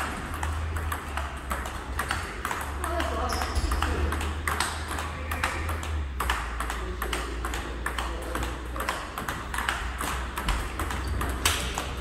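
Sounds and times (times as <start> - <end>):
table tennis ball clicking: 0.0 - 12.0.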